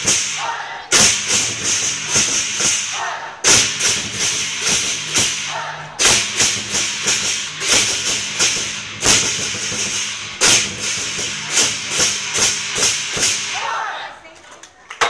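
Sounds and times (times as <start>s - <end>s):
cymbals clashing: 0.0s - 14.1s
drum beating: 0.0s - 14.4s.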